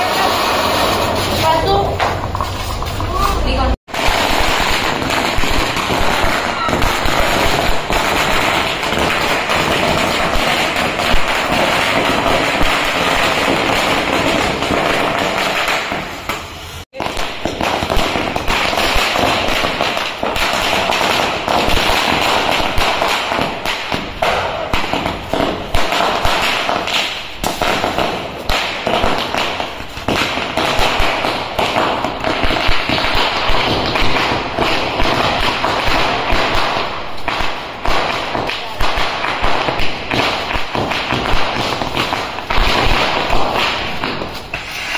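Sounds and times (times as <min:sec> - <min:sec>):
fireworks hissing and crackling: 0:00.0 - 0:44.9
sharp firework pops: 0:03.9 - 0:44.9.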